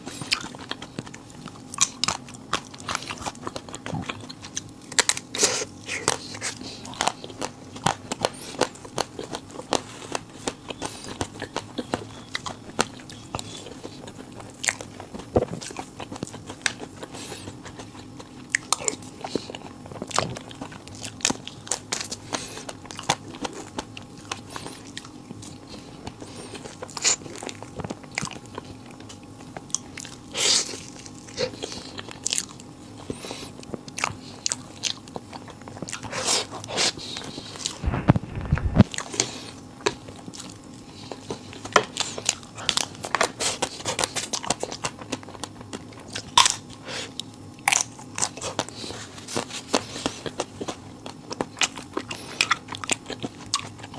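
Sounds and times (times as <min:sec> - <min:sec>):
crunchy bites and chewing: 0:00.0 - 0:53.9.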